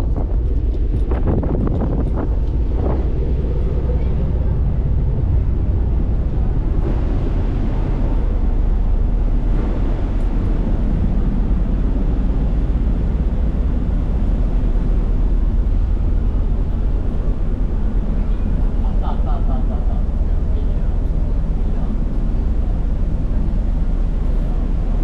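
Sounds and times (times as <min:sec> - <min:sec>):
ferry engines rumbling: 0:00.0 - 0:25.0.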